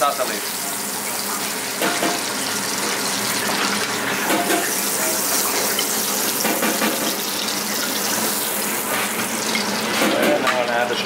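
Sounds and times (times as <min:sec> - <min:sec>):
fat sizzling in a pan: 0:00.0 - 0:10.1.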